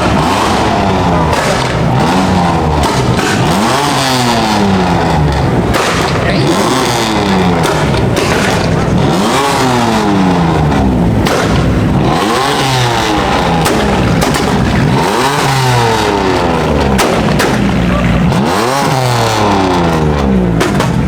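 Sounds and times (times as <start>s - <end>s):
car engine revving: 0.0s - 21.0s
sharp exhaust pops: 0.0s - 21.0s.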